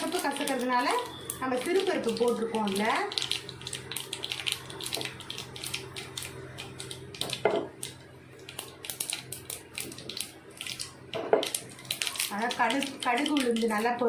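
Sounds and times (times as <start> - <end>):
seeds spluttering in hot oil: 0.0 - 14.0.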